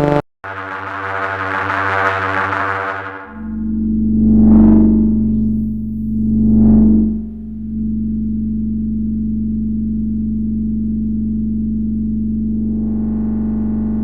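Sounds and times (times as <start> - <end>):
low synthesizer drone: 0.0 - 14.0.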